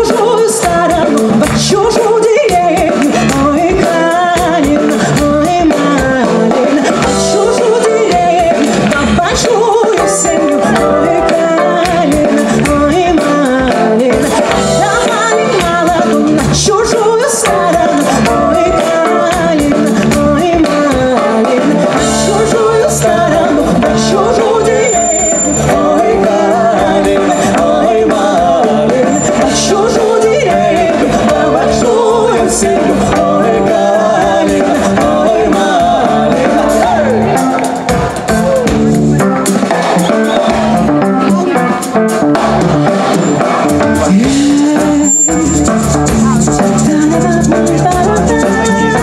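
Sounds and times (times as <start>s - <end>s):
live folk fusion band playing: 0.0s - 49.0s
person singing: 0.0s - 49.0s
steady beat: 0.1s - 49.0s.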